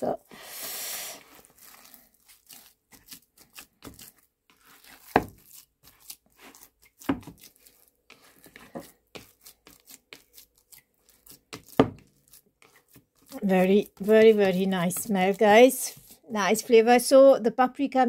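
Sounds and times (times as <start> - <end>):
hands squelching soft mixture: 0.0 - 17.2.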